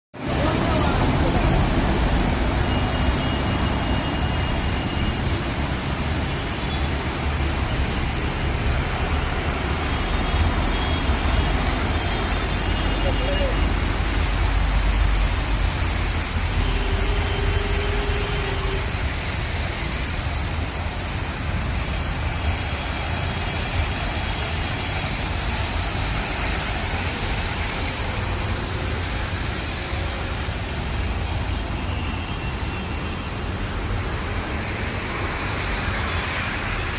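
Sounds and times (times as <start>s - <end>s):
water rushing: 0.2s - 36.9s.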